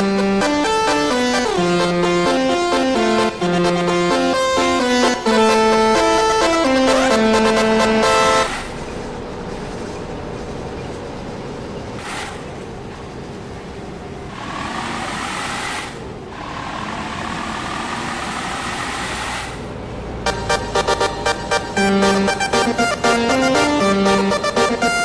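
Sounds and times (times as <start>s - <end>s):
vehicles passing on a road: 0.0s - 25.0s.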